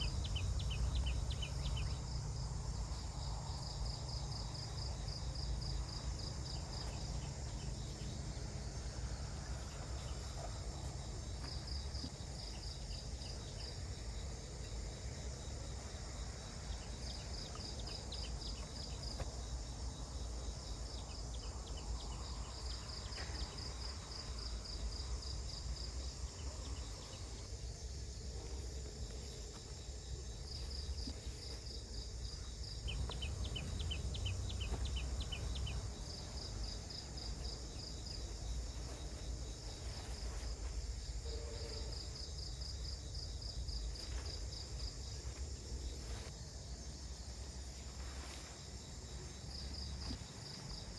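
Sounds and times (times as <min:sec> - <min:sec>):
high insect hiss: 0:00.0 - 0:50.9
insects chirping in rapid pulses: 0:00.0 - 0:50.9.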